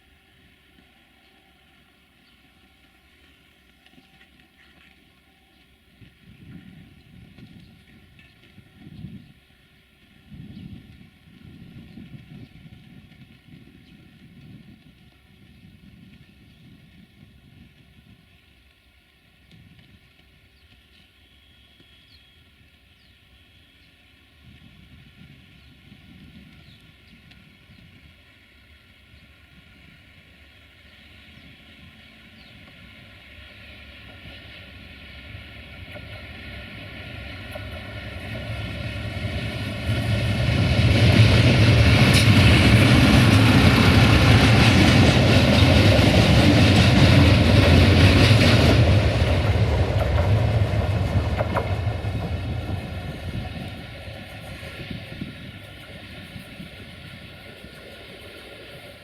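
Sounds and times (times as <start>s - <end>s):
train passing on rails: 0.0s - 59.0s.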